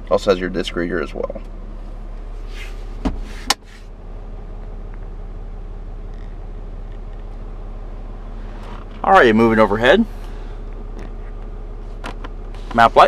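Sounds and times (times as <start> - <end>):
low hum in truck cab: 0.0 - 13.0.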